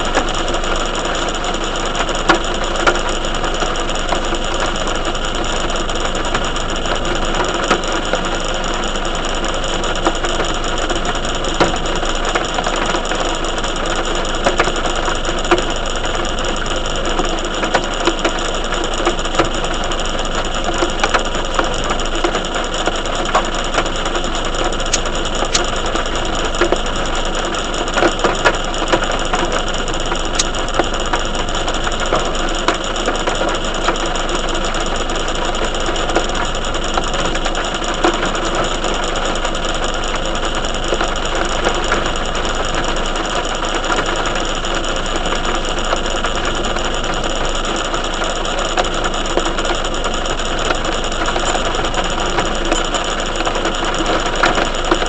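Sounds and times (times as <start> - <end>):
raindrops ticking on hard surface: 0.0 - 55.0.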